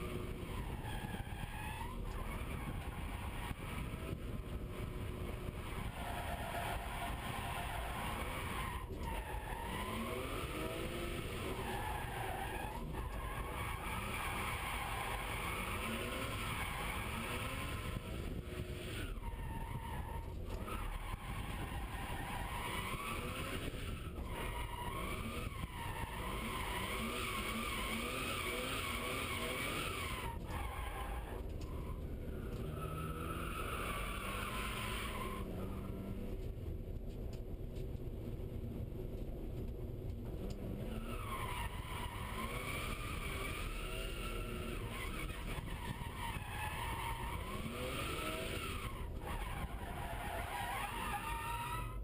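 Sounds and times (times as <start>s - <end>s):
car engine revving: 0.0s - 37.1s, 40.1s - 51.9s.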